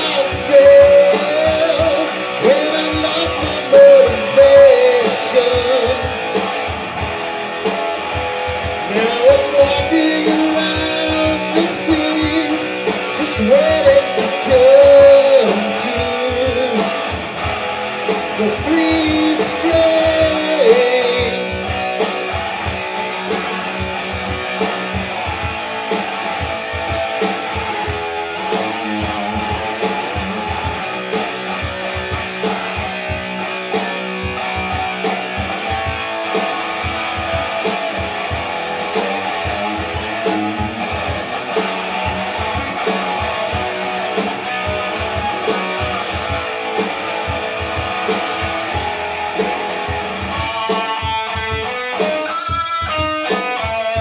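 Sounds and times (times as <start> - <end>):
bass guitar: 0.0 - 54.0
electric guitar: 0.0 - 54.0
steady drum beat: 0.0 - 54.0.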